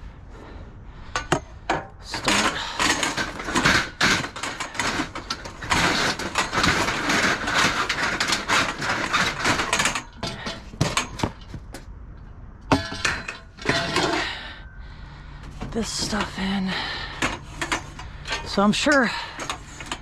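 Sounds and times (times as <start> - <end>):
scrap metal clattering: 1.0 - 11.9, 12.6 - 20.0.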